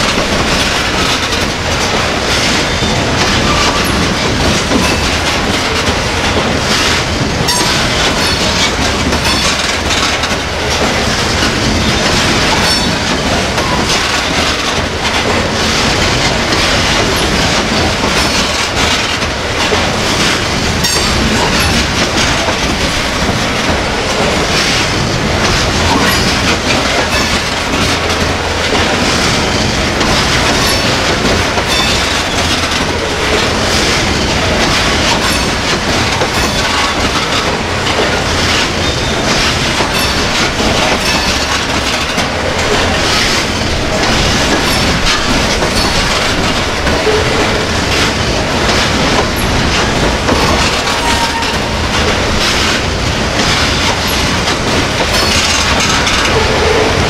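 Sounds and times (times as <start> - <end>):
clicking over rail joints: 0.0 - 57.0
train wheels rumbling on rail: 0.0 - 57.0.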